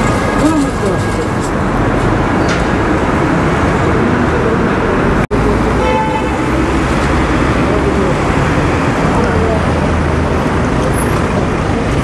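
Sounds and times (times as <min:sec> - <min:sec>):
passing cars: 0:00.0 - 0:12.0.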